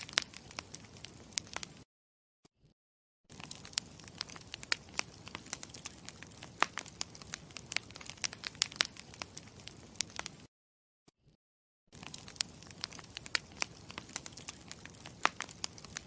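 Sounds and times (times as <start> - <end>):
campfire crackling and popping: 0.0 - 1.8, 3.3 - 10.5, 12.0 - 16.0.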